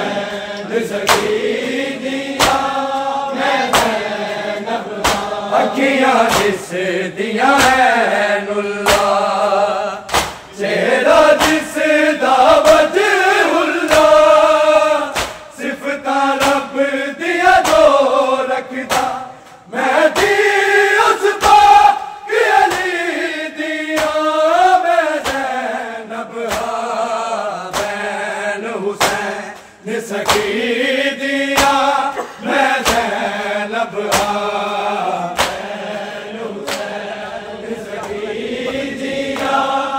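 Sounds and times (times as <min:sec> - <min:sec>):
men chanting a lament: 0:00.0 - 0:39.9
rhythmic chest-beating slaps: 0:00.0 - 0:39.9.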